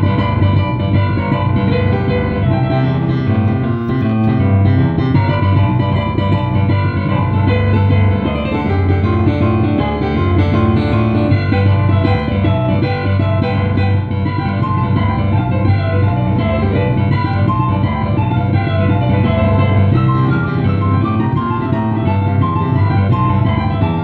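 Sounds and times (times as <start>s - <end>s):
digital piano playing: 0.0s - 24.0s.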